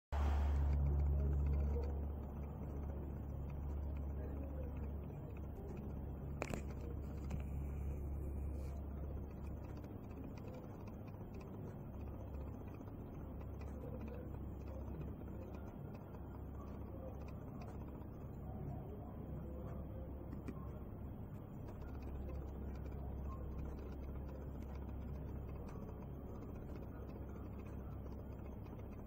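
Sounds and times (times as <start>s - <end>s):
aquarium equipment humming: 0.2s - 29.0s.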